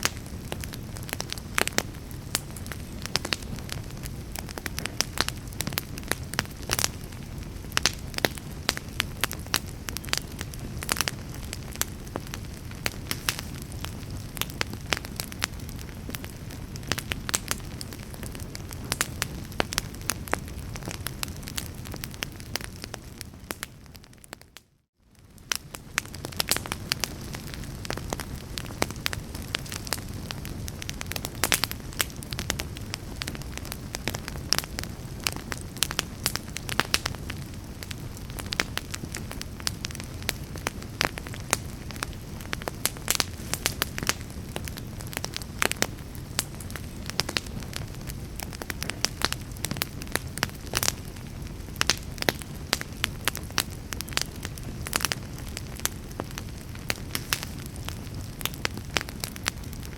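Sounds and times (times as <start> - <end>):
sharp pops of fire: 0.0 - 24.4, 25.2 - 59.9
low rumble of flames: 0.0 - 59.9
wood fire crackling: 0.0 - 59.9.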